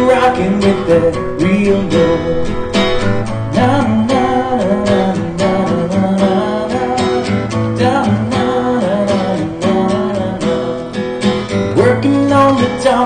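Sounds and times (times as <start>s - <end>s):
amplified acoustic guitar strumming: 0.0s - 13.0s.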